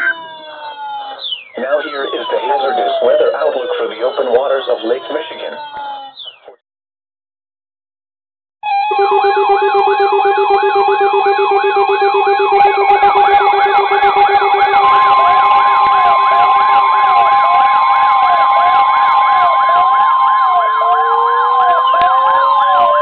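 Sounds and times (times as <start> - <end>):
steady alarm tone: 0.0 - 6.1, 8.6 - 23.0
hi-lo beeping alarm: 0.0 - 6.6, 8.6 - 23.0
warbling alarm tones: 0.0 - 6.6, 8.6 - 23.0.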